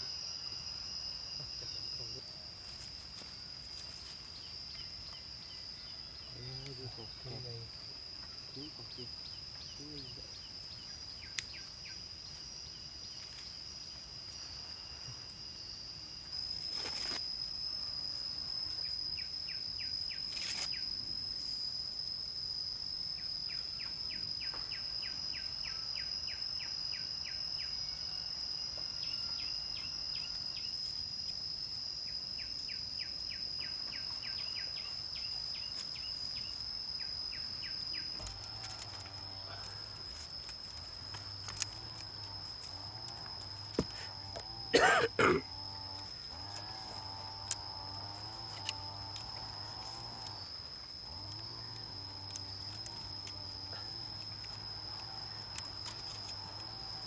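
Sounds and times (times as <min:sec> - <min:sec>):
insects droning: 0:00.0 - 0:57.0
insects ticking chirps: 0:00.0 - 0:57.0.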